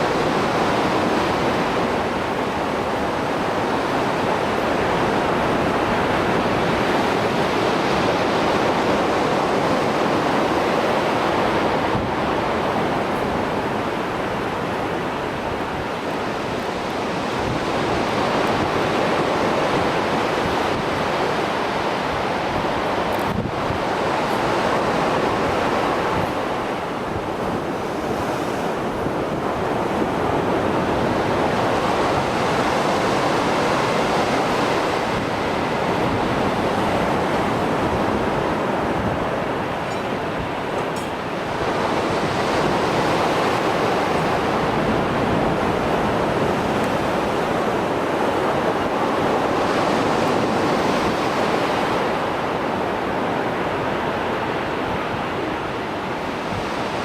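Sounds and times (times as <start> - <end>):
rough surf waves breaking: 0.0 - 57.0.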